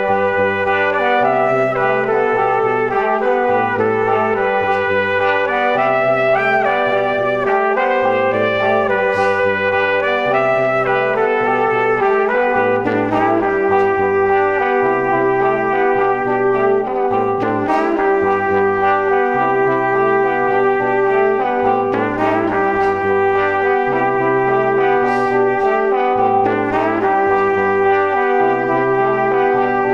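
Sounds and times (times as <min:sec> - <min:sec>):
instrumental music with bass line: 0:00.0 - 0:29.9.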